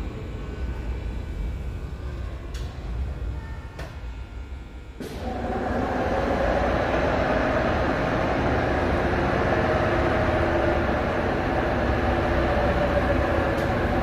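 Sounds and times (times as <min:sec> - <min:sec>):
metro train rumble: 0:00.0 - 0:14.0
train hum tones: 0:00.0 - 0:14.0.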